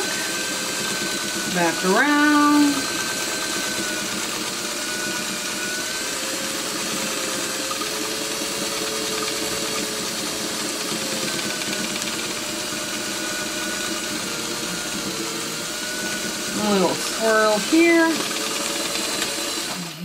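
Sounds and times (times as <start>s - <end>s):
sewing machine running: 0.0s - 20.0s.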